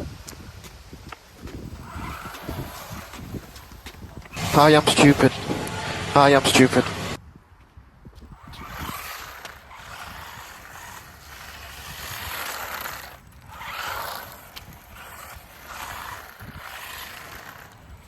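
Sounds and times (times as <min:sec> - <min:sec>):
tyres scrubbing on ground: 0:00.6 - 0:07.2, 0:08.2 - 0:18.0
rc car motor whining: 0:01.4 - 0:07.2, 0:08.2 - 0:18.0.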